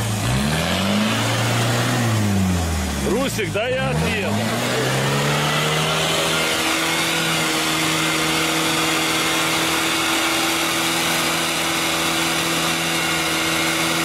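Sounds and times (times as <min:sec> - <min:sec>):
engine revving high: 0:00.0 - 0:14.0.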